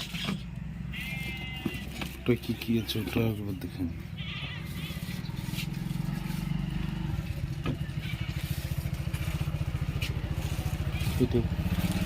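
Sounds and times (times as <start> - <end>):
small engine throbbing: 0.4 - 12.0.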